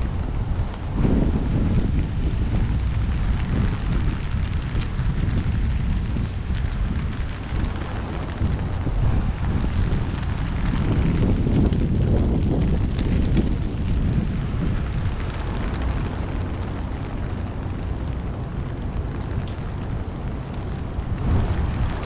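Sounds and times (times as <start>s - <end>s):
rain hissing: 0.0s - 22.0s
wind buffeting microphone: 0.0s - 22.0s.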